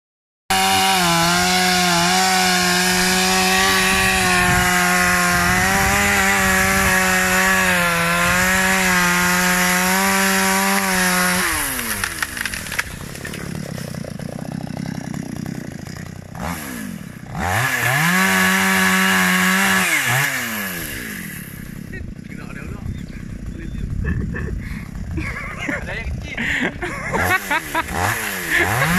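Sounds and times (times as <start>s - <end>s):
chainsaw cutting and idling: 0.5s - 28.9s.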